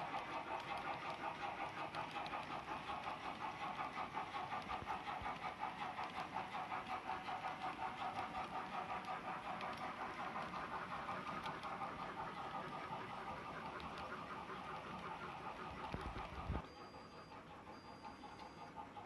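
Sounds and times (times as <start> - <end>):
model train wheels clattering: 0.0 - 19.0.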